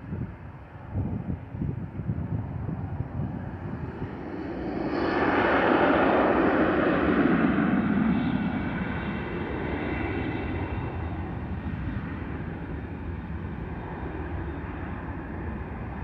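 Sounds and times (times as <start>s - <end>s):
jet engines rushing: 0.2s - 16.0s.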